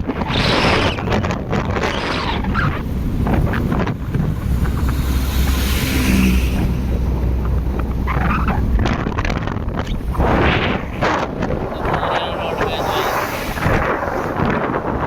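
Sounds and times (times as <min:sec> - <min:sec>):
motorcycle and road rumble: 0:00.0 - 0:15.0
wind buffeting microphone: 0:00.0 - 0:15.0.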